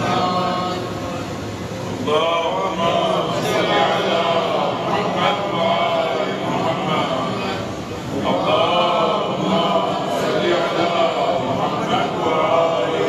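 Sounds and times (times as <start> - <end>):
steady low hum: 0.0 - 13.0
man chanting melodically: 2.0 - 13.0.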